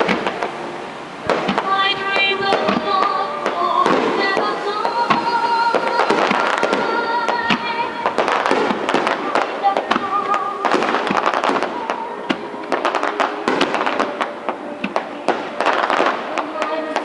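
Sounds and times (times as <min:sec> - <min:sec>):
fireworks bursts and bangs: 0:00.0 - 0:17.0
music playing: 0:00.0 - 0:17.0.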